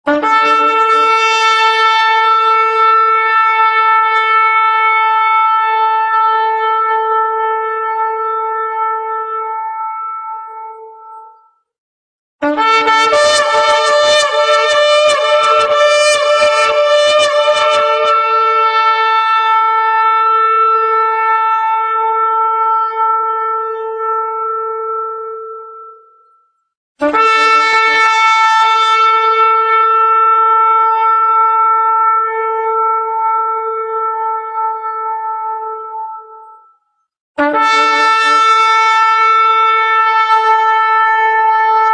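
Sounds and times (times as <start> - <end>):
shofar blasts: 0.1 - 11.4, 12.4 - 26.2, 27.0 - 36.8, 37.4 - 41.9.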